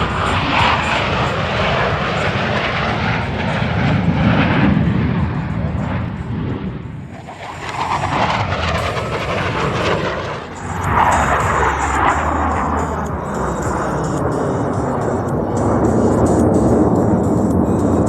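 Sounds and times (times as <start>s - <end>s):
aircraft engine: 0.0s - 18.0s.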